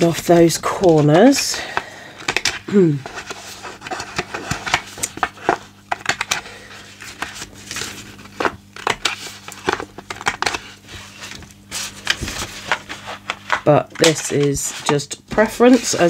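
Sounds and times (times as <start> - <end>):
paper rustling: 0.0 - 1.7, 2.3 - 16.0.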